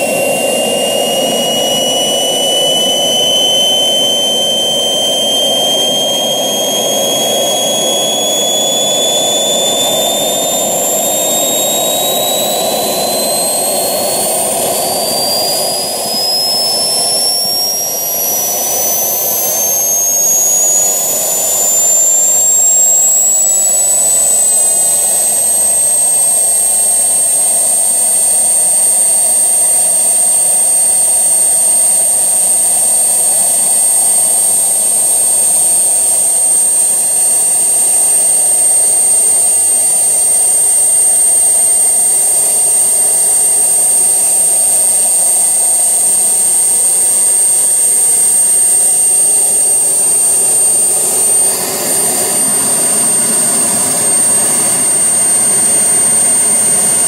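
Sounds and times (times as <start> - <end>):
model jet turbine whine: 0.0 - 57.0
rushing exhaust noise: 0.0 - 57.0.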